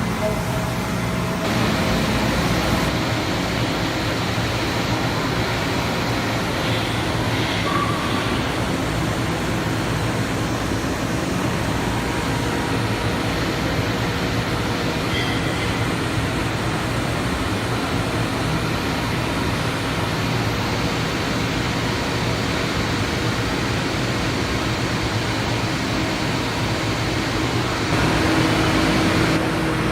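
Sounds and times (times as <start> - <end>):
milling machine running: 0.0 - 29.9.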